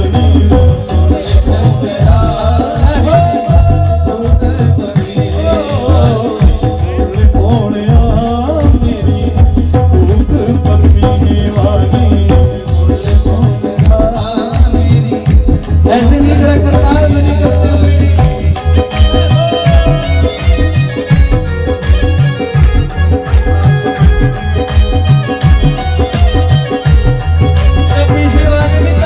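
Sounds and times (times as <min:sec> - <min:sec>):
devotional folk music: 0:00.0 - 0:29.0
heavy drum beat: 0:00.0 - 0:29.0
rattling percussion: 0:00.0 - 0:29.0.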